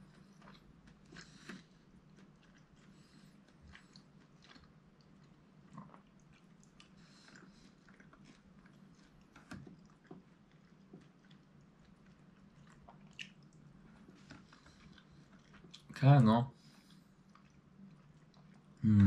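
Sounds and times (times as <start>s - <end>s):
chewing with wet mouth clicks: 0.0s - 16.0s, 16.7s - 18.8s.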